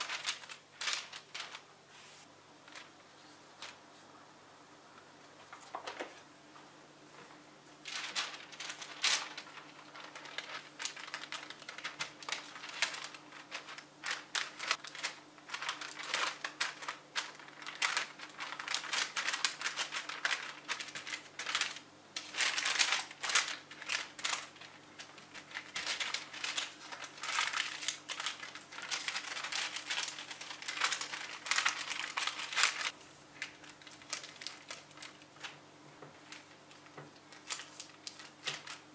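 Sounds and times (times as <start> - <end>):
baking paper crinkling: 0.0 - 4.0, 5.3 - 6.3, 7.8 - 38.9.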